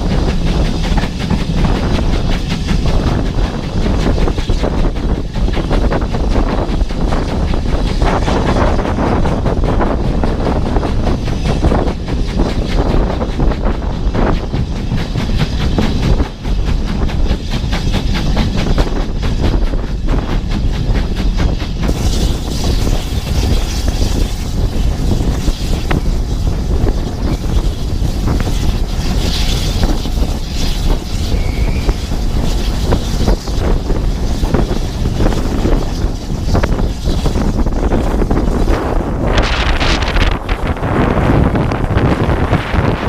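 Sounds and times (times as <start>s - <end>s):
steam train running: 0.0s - 43.0s
wind buffeting microphone: 0.0s - 43.0s.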